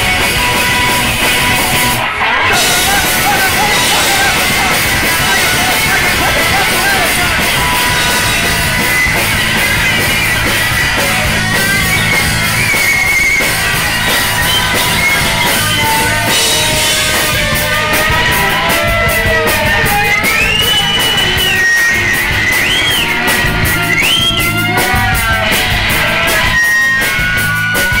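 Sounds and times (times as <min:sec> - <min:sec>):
high sliding guitar notes: 0:00.0 - 0:28.0
live rock band playing: 0:00.0 - 0:28.0.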